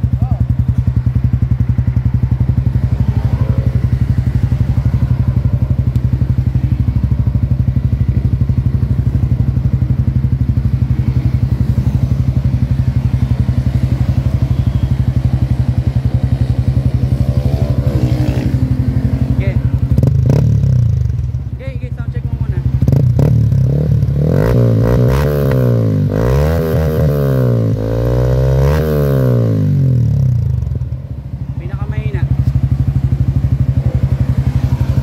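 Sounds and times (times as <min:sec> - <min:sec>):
motorcycle engine idling: 0:00.0 - 0:26.2, 0:27.2 - 0:35.0.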